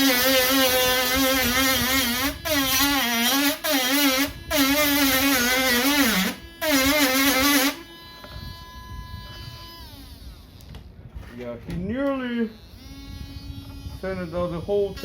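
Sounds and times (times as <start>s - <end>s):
rotary tool grinding plastic: 0.0s - 15.0s.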